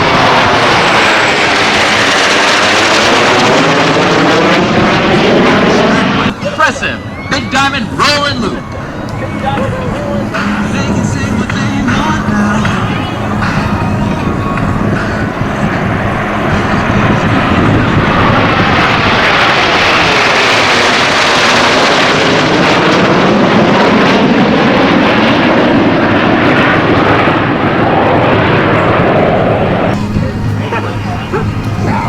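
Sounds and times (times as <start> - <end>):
jets flying past: 0.0 - 32.0.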